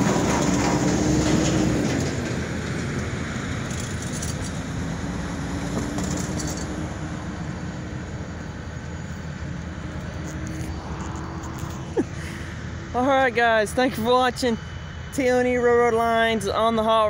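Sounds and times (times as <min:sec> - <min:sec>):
diesel locomotives rumbling: 0:00.0 - 0:17.0
low hum: 0:00.0 - 0:17.0.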